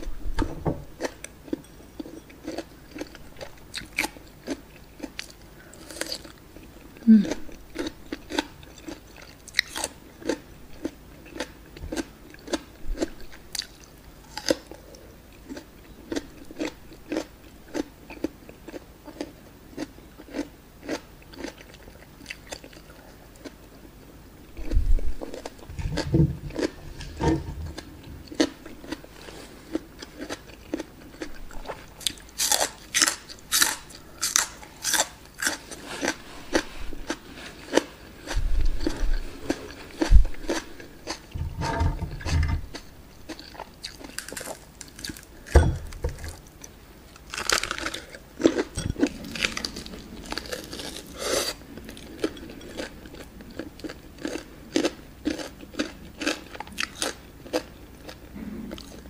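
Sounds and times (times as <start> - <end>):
chewing crisp raw vegetables: 1.0 - 23.9, 24.6 - 59.0.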